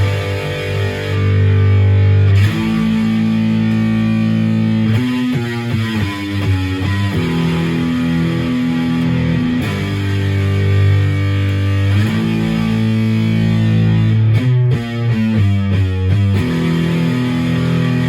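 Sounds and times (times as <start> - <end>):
distorted electric guitar chords: 0.0 - 18.0.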